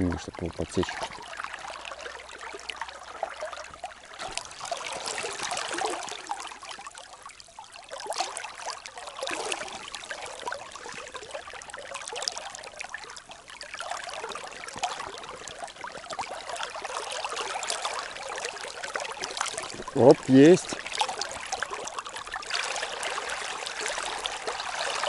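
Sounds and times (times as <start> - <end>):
river water babbling: 0.0 - 25.0.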